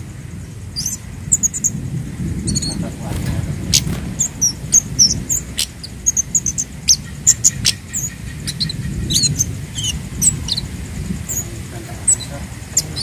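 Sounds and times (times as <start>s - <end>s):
bird chips and twittering: 0.0s - 13.0s
low rumble: 0.0s - 13.0s.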